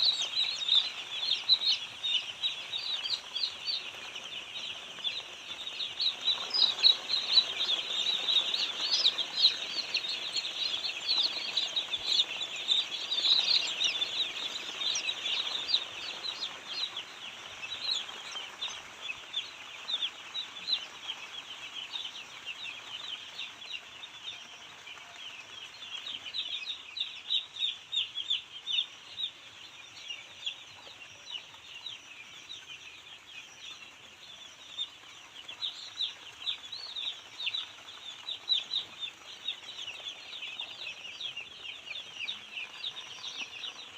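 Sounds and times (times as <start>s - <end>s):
chickens peeping: 0.0s - 43.9s.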